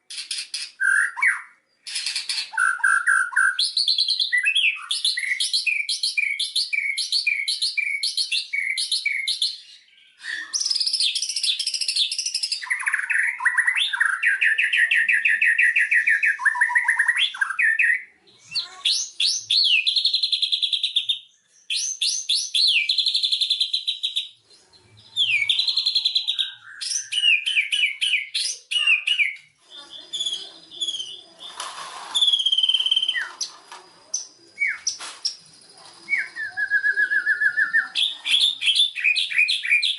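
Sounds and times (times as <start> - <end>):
bird singing whistled trills: 2.5 - 31.6, 32.2 - 39.9.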